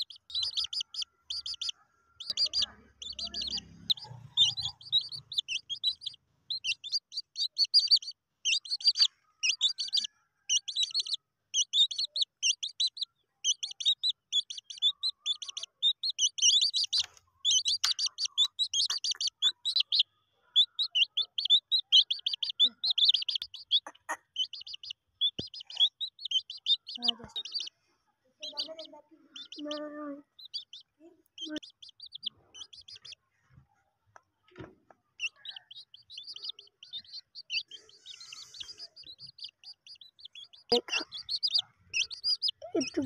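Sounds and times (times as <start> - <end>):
chicks peeping: 0.0 - 43.0.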